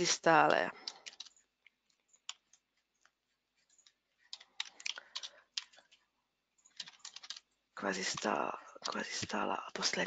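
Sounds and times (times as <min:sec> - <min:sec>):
faint keyboard typing: 0:00.0 - 0:10.0.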